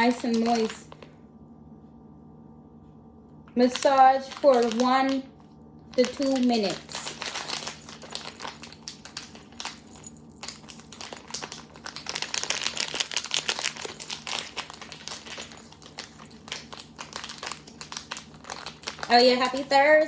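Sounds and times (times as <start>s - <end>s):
plastic pouch crinkling: 0.0s - 1.1s, 3.7s - 5.3s, 5.9s - 20.0s.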